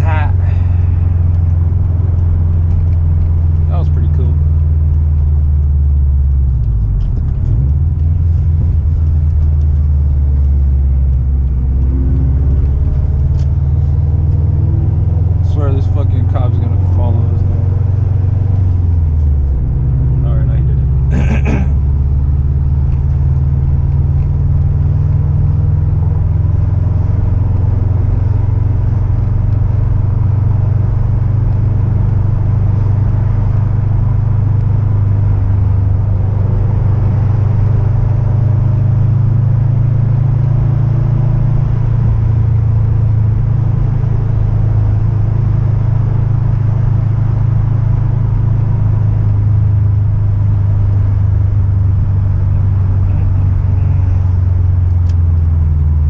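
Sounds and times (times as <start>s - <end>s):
car engine droning: 0.0s - 56.0s
road rumble: 0.0s - 56.0s.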